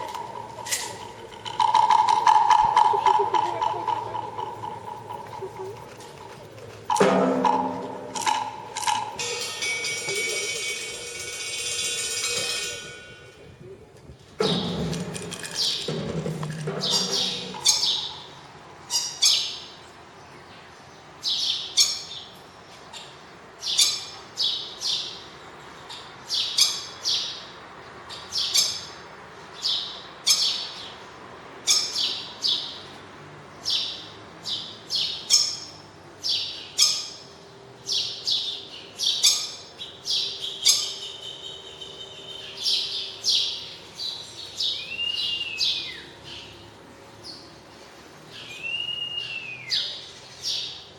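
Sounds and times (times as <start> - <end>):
birds chirping and squawking: 0.0 - 13.7, 14.4 - 20.1, 20.8 - 33.0, 33.6 - 50.9.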